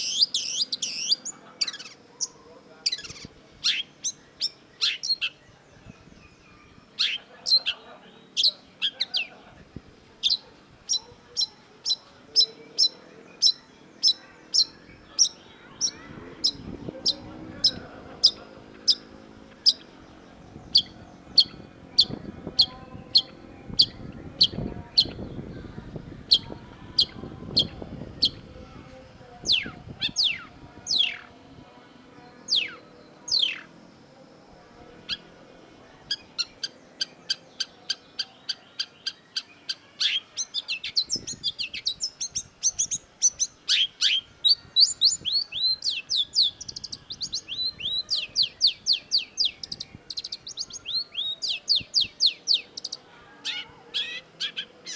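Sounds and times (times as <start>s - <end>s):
faint background murmur: 0.0s - 54.9s.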